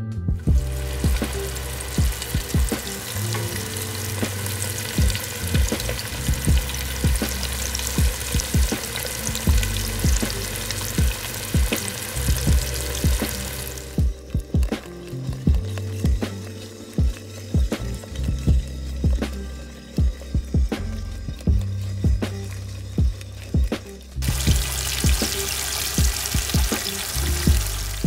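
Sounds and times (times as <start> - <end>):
hot oil sizzling and crackling: 0.4 - 28.0.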